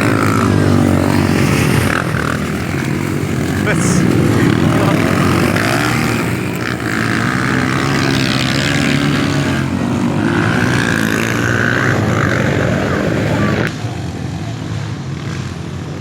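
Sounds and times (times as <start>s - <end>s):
racing motorcycle engines revving: 0.0s - 16.0s.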